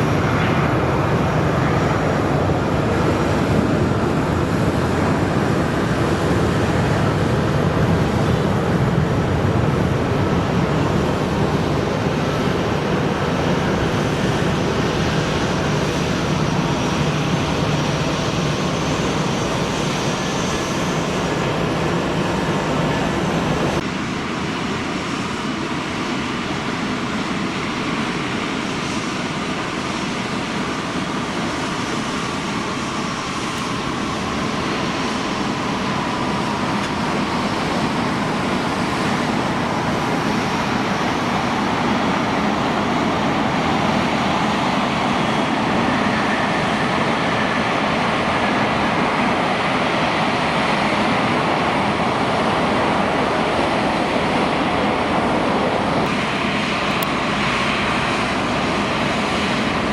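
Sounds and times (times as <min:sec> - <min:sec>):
jet airliner engines: 0:00.0 - 0:59.9.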